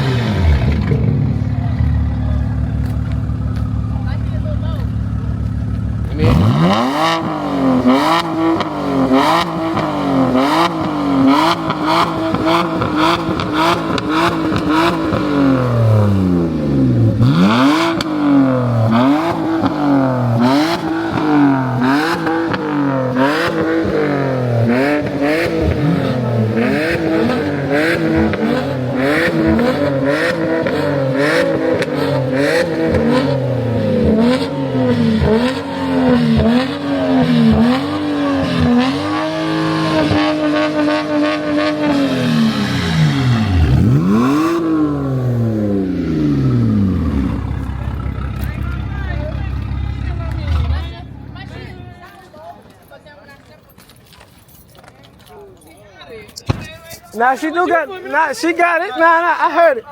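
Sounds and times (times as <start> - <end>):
car engine revving: 0.0 - 52.1
car engine idling: 0.0 - 52.6.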